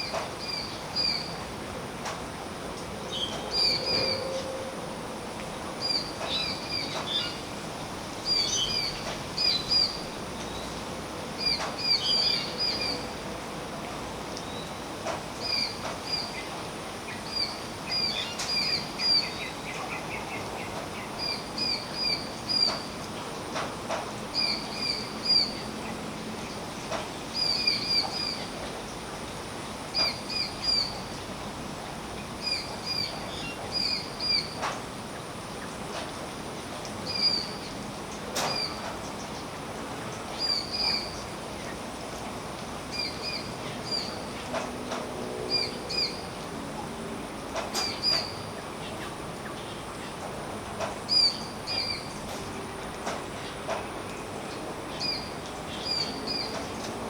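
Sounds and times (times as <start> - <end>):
rain falling on a tree: 5.2 - 57.0.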